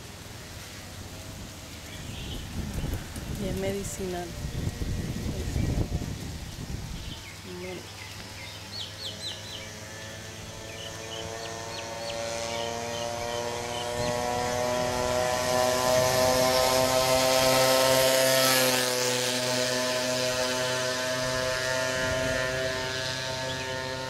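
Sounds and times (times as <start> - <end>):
aircraft engine drone: 0.0 - 24.0
birds chirping: 1.6 - 18.0, 18.9 - 24.0.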